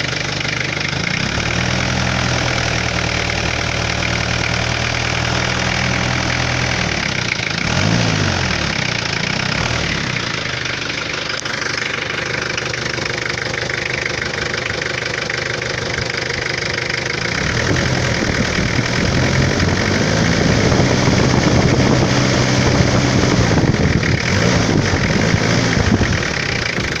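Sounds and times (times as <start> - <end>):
diesel engine idling and revving: 0.0 - 27.0.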